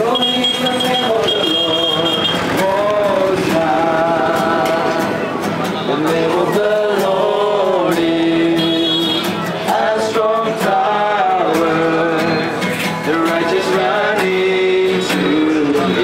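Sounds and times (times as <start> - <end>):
strummed acoustic guitar: 0.0 - 16.0
voices singing a hymn: 0.0 - 16.0.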